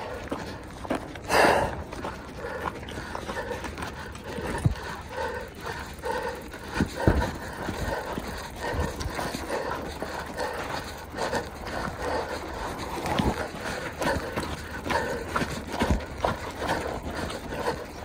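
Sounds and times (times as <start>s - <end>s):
bike rattling over rough ground: 0.0s - 18.0s.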